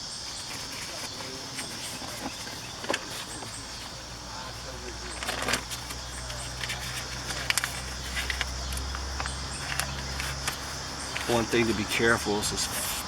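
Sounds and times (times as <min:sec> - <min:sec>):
faint insect chirping: 0:00.0 - 0:13.0
steady low hum: 0:00.0 - 0:13.0.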